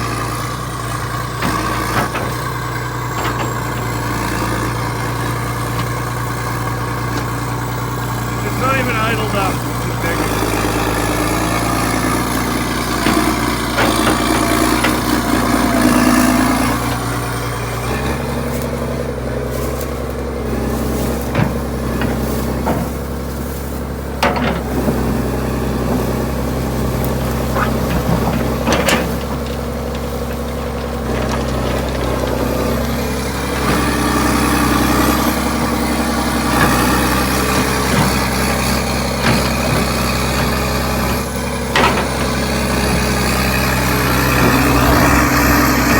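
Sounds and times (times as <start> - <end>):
excavator clanks: 0.0 - 45.9
excavator diesel engine: 0.0 - 45.9.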